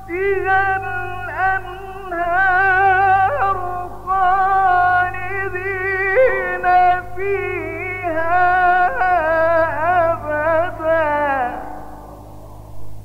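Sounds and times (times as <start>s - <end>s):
man chanting: 0.0s - 12.5s
low steady hum: 0.0s - 13.0s.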